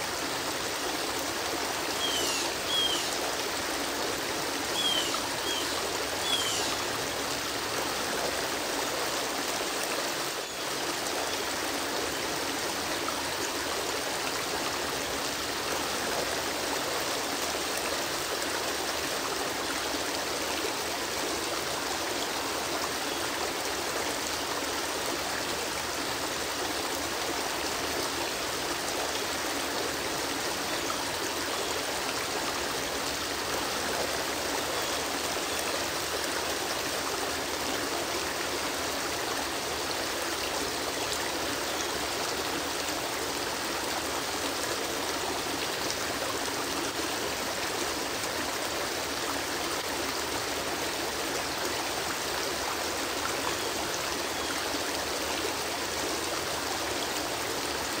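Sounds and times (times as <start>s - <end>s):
waterfall and stream rushing: 0.0s - 58.0s.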